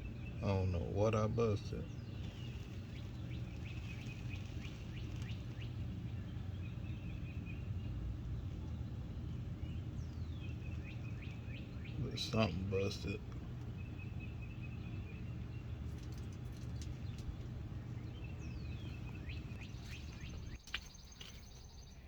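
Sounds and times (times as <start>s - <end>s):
steady low hum: 0.0s - 21.6s
birds chirping: 0.0s - 22.0s.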